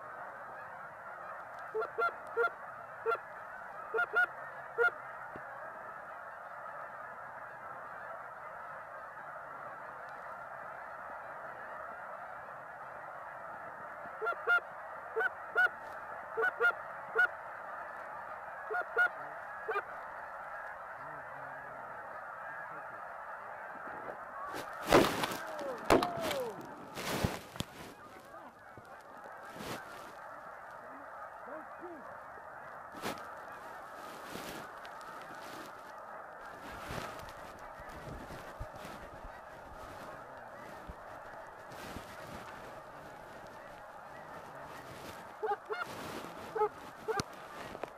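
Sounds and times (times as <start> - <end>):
geese honking: 0.0 - 47.9.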